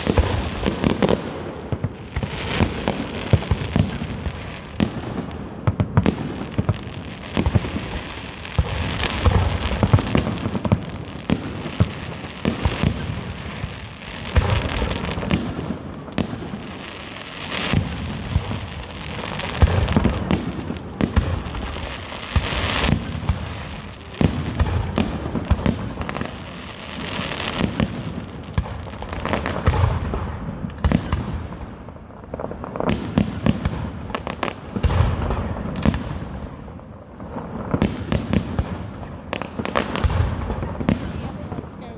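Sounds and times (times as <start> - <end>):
fireworks bangs: 0.0 - 41.9
fireworks crackling: 0.0 - 41.9.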